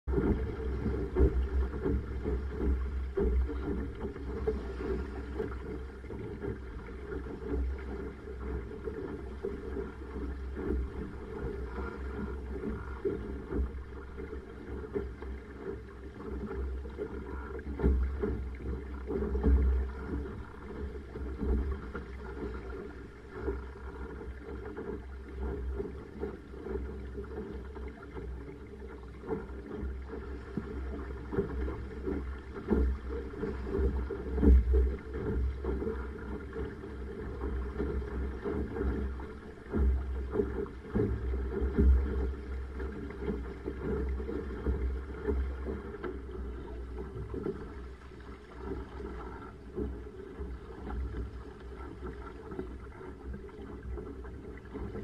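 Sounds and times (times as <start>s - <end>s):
water slapping along a hull: 0.0s - 55.0s
waves knocking: 0.1s - 55.0s
wind rumbling on microphone: 0.1s - 55.0s.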